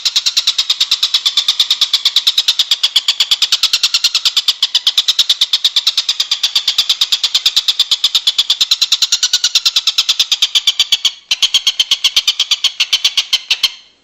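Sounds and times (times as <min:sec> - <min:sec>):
songbird rattling trill: 0:00.0 - 0:13.9.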